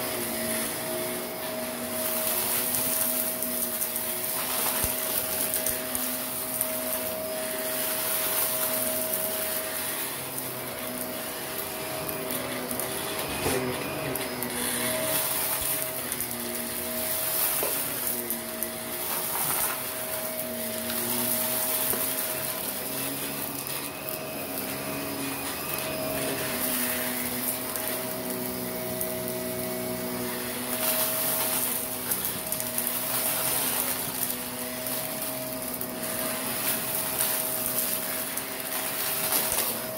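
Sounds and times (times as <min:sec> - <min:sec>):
grit crackling in vacuum brush: 0:00.0 - 0:39.9
upright vacuum running over carpet: 0:00.0 - 0:39.9.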